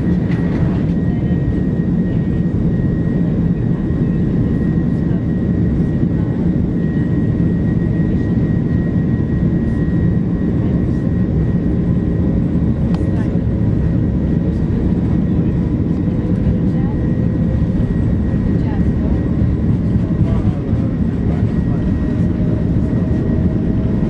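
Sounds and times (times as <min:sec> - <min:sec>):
high jet engine whine: 0:00.0 - 0:24.0
jet engine low rumble: 0:00.0 - 0:24.0.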